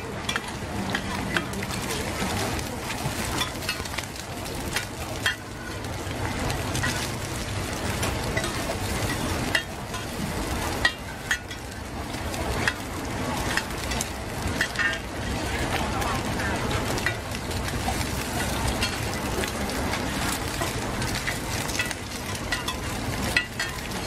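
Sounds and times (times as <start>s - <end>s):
eggs sizzling in hot oil: 0.0s - 24.0s.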